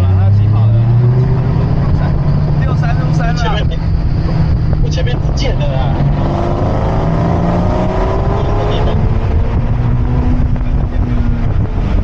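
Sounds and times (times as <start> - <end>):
car engine pulling: 0.0 - 12.0
road and wind rumble: 0.0 - 12.0.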